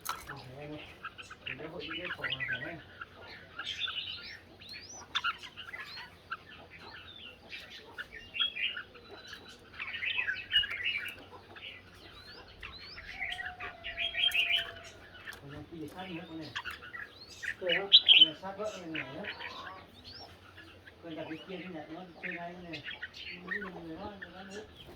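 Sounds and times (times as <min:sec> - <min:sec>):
birds singing chirps and whistles: 0:00.0 - 0:24.9.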